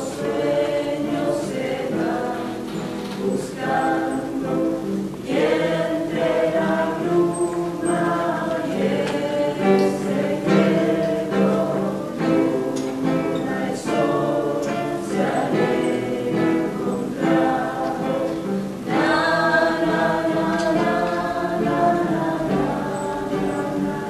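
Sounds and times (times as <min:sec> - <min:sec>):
acoustic guitar: 0:00.0 - 0:24.0
group of people singing: 0:00.0 - 0:24.0.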